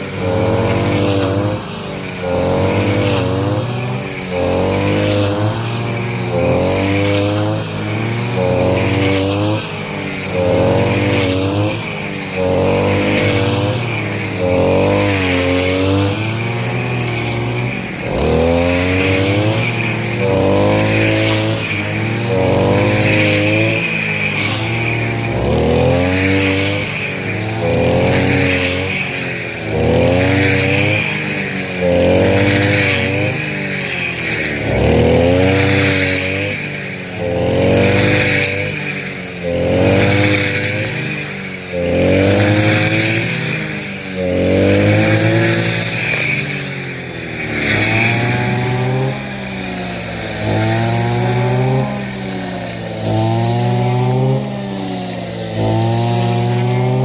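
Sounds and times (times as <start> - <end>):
motor revving: 0.0 - 57.0.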